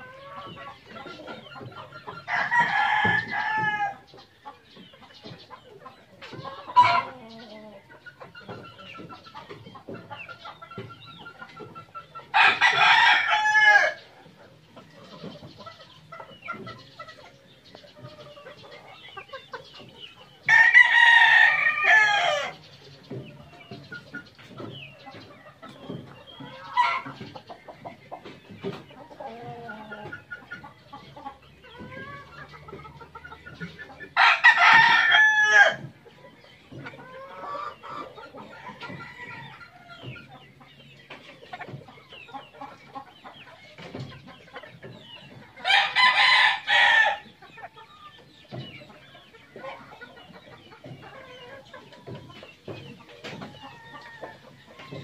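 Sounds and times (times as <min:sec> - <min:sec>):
chickens clucking and peeping: 0:00.0 - 0:55.0.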